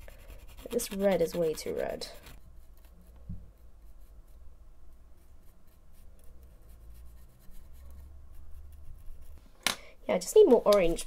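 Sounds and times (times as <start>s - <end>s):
paintbrush scratching on board: 0.0s - 9.4s.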